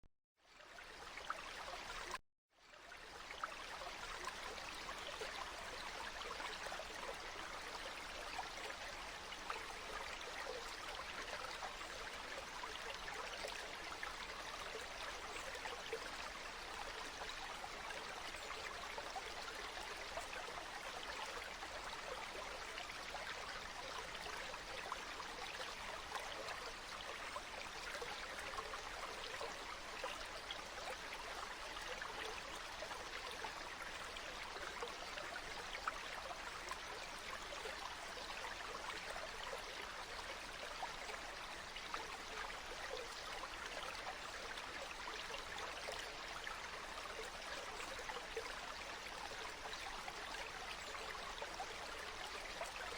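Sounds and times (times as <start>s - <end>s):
stream water rushing and trickling: 0.5s - 52.9s.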